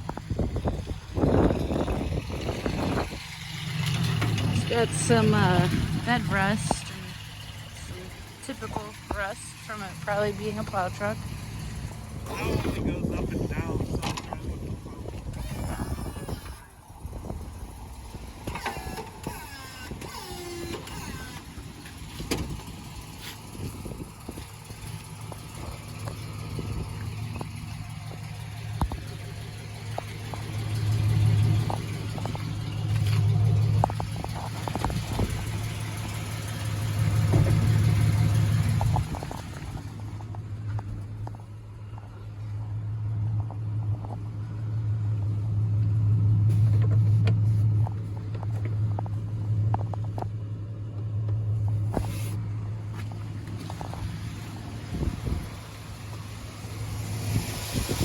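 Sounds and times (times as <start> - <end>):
truck engine droning: 0.0 - 58.0.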